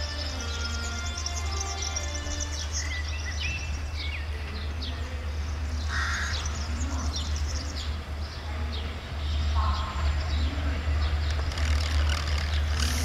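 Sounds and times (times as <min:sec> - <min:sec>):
birds chirping and calling: 0:00.0 - 0:13.0
diesel locomotive rumbling: 0:00.0 - 0:13.0.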